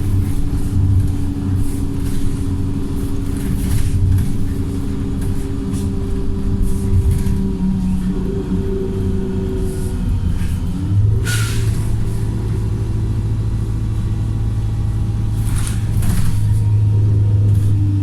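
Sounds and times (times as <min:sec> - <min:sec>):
bus diesel engine pulling hard: 0:00.0 - 0:18.0.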